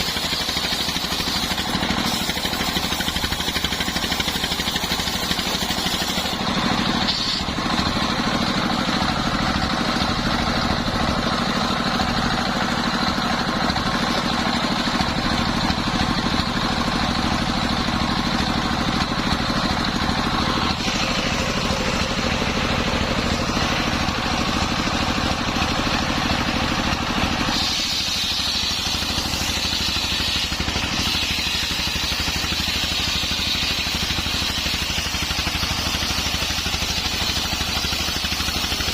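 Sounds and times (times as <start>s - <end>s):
engine-driven circular saw cutting log: 0.0s - 38.9s.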